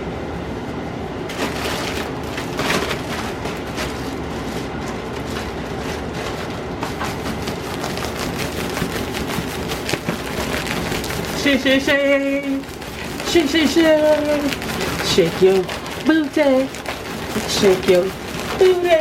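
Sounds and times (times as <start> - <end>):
chicken shaken in flour container: 1.3 - 19.0.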